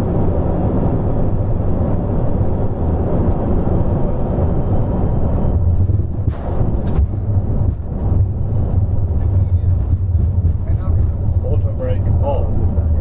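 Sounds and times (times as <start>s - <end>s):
engine and airflow rumble: 0.0s - 13.0s.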